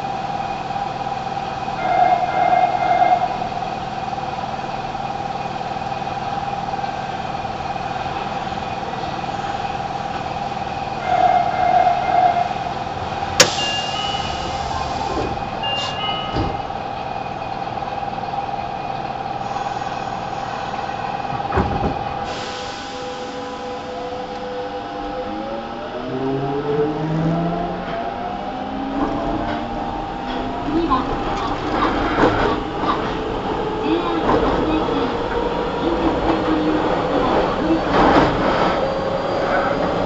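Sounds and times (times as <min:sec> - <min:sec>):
train humming tone: 0:00.0 - 0:40.0.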